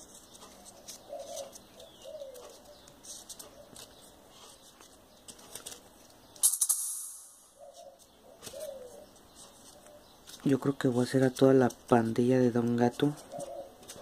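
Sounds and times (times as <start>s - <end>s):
paper rustling and ticking: 0.0s - 6.3s, 8.0s - 14.0s.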